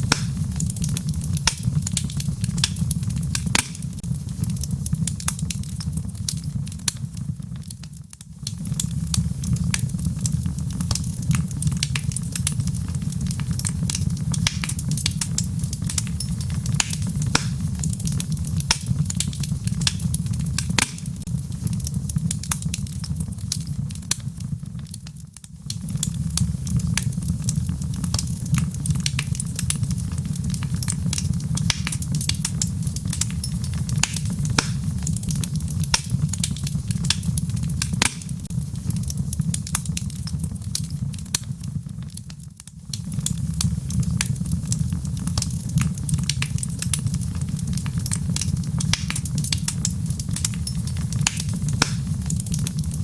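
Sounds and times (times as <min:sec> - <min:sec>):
fire crackling and popping: 0:00.0 - 0:53.0
flames rumbling: 0:00.0 - 0:53.0.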